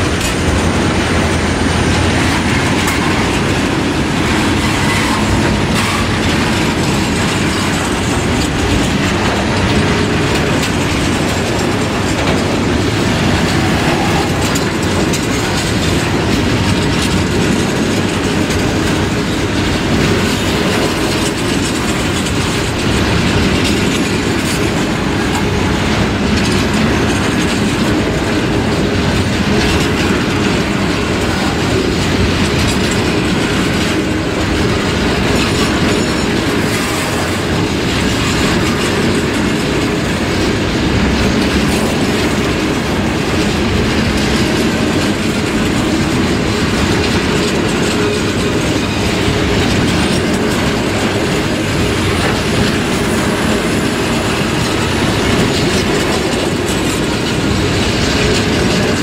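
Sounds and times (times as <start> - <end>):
steel wheels rumbling on rail: 0.0 - 59.0
wheels clicking over rail joints: 0.0 - 59.0.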